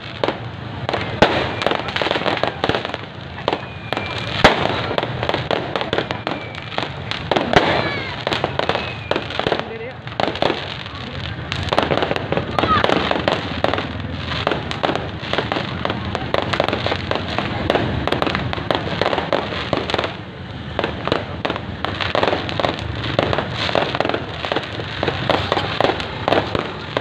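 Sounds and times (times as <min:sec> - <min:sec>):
fireworks popping and banging: 0:00.0 - 0:27.0.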